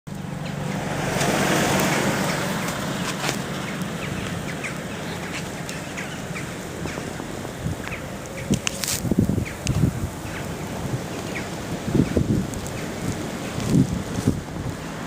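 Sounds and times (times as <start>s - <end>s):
wind buffeting microphone: 0.2s - 15.0s.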